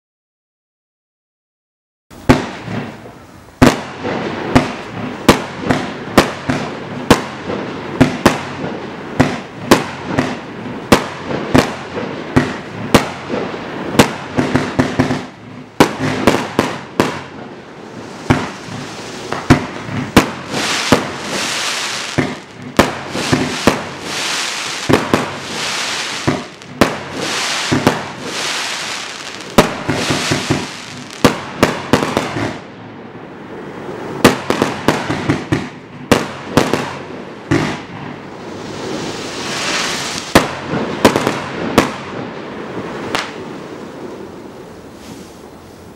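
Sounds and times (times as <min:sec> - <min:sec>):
firework hiss: 0:02.1 - 0:32.7, 0:33.5 - 0:45.9
firework shots: 0:02.1 - 0:32.8, 0:33.5 - 0:45.5.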